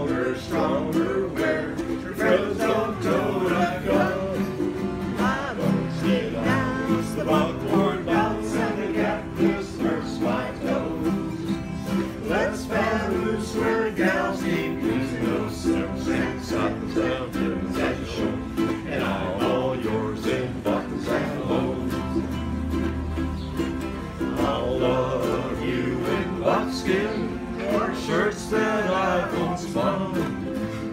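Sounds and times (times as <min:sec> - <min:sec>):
ukuleles strummed together: 0:00.0 - 0:30.9
voices singing along: 0:00.0 - 0:30.9.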